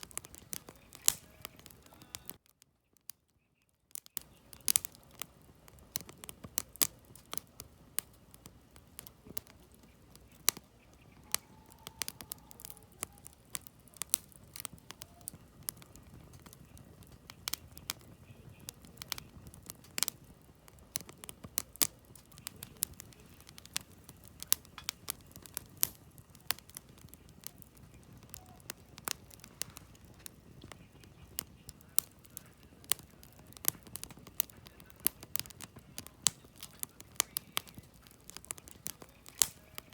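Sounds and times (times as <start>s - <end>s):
low rumble of flames: 0.0s - 2.5s, 3.9s - 39.9s
campfire crackles and pops: 0.0s - 39.9s.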